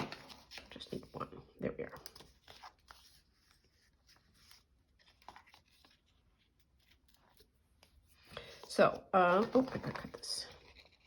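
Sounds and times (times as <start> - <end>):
paper rustling: 0.0 - 1.2, 1.9 - 11.0.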